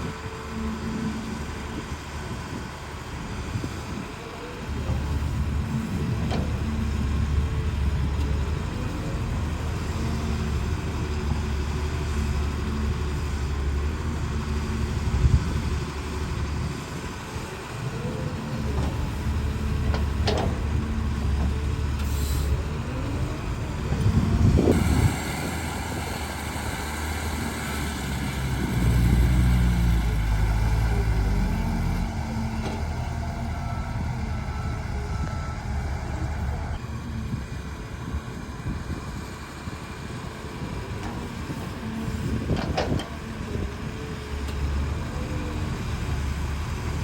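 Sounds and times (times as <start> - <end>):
excavator diesel engine under load: 0.0 - 47.0.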